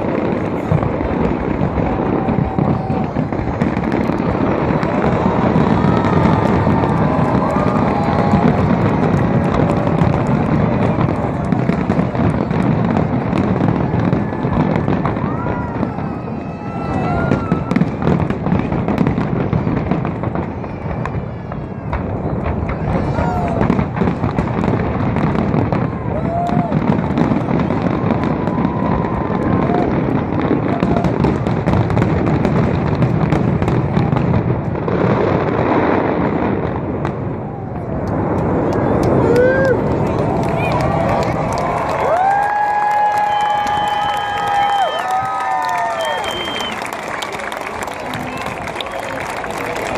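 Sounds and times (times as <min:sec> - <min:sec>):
whistling firework tones: 0:00.0 - 0:32.4, 0:33.2 - 0:49.9
fireworks barrage: 0:00.0 - 0:49.9.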